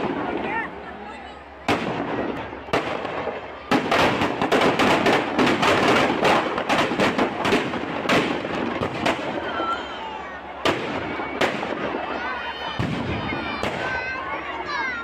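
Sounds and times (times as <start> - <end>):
firecrackers banging and crackling: 0.0 - 15.0.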